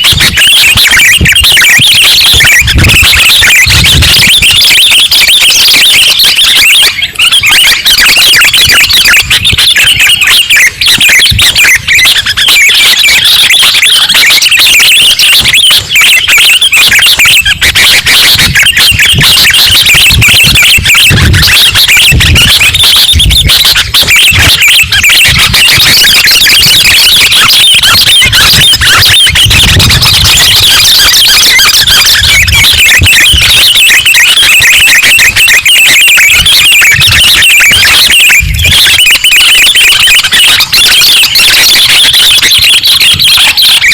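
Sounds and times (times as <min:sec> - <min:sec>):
bulbuls chirping and chattering: 0:00.0 - 0:43.9.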